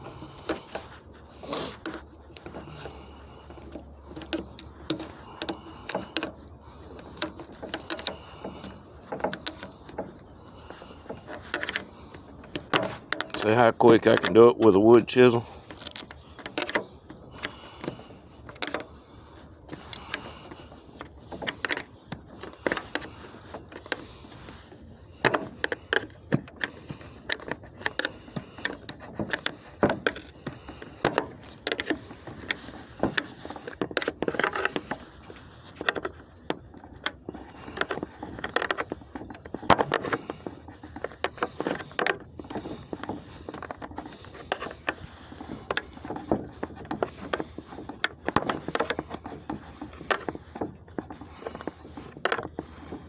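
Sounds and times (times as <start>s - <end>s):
chisel clicking and scraping metal: 0.0s - 53.0s.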